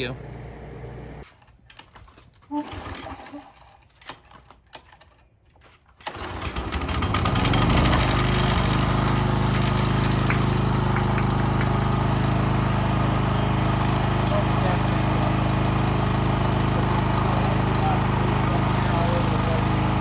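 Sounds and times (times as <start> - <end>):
small engine starting and running: 2.5 - 5.1, 6.0 - 20.0.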